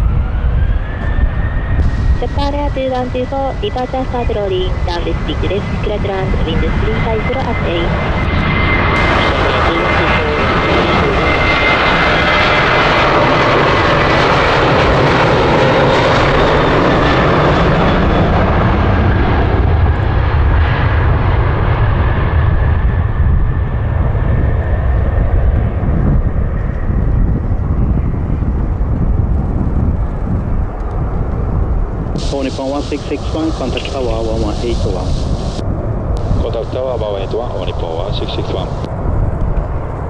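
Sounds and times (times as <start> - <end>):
deep jet rumble: 0.0 - 40.0
jet engine whine: 0.0 - 40.0.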